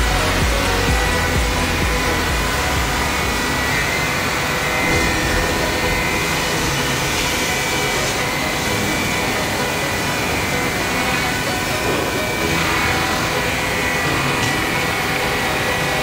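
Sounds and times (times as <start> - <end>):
router spindle whining: 0.0 - 16.0
rush of wood cutting: 0.1 - 16.0.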